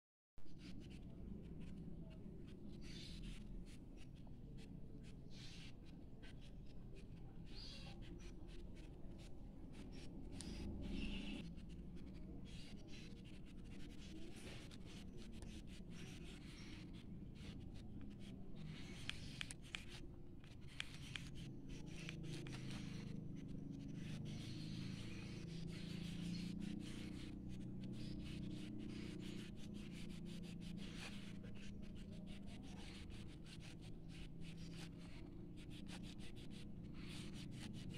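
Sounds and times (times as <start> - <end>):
marker pen scratching on paper: 0.5 - 37.9.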